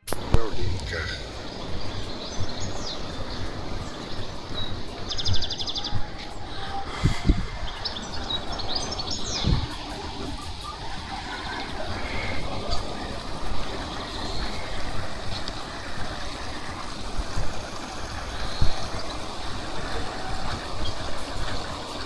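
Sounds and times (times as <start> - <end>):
low thumps: 0.0 - 22.0
songbirds singing and chirping: 0.0 - 22.0
wind rumble on microphone: 0.0 - 22.0.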